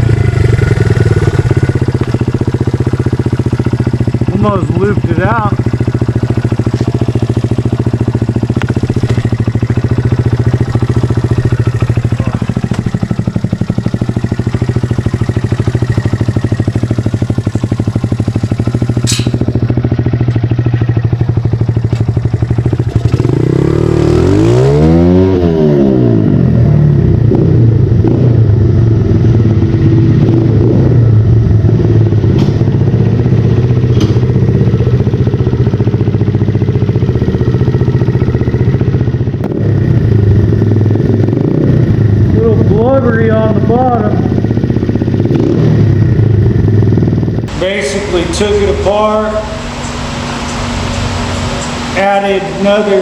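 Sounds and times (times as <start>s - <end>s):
small motorbike engine revving: 3.6s - 53.0s.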